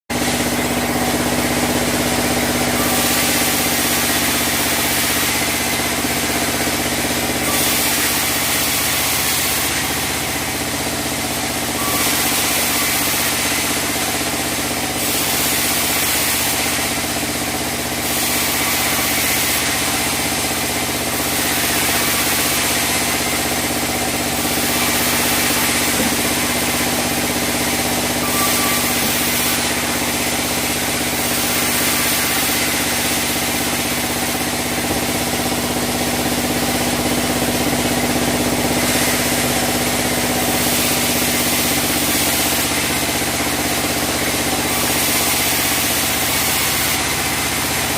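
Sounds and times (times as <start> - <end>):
band saw running on wood: 0.1 - 47.9.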